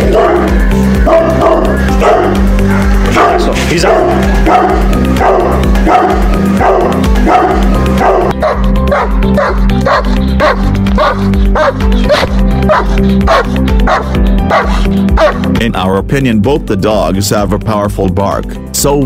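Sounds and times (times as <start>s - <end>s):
dog barking: 0.0s - 15.4s
dog barking rhythmically: 0.0s - 15.6s
background music: 0.0s - 19.0s.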